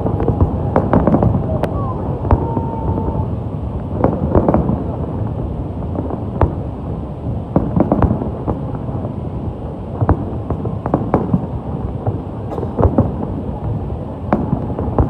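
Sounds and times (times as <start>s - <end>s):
crowd rumble: 0.0s - 15.0s
fireworks bangs and crackles: 0.0s - 15.0s.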